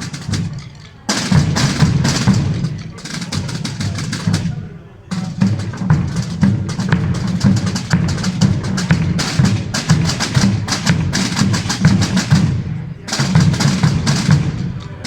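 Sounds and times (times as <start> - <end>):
snare and bass drums playing: 0.0 - 15.0.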